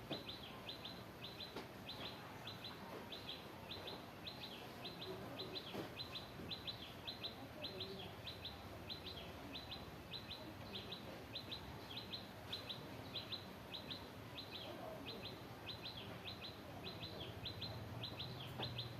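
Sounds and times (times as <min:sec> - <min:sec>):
low steady background noise: 0:00.0 - 0:18.9.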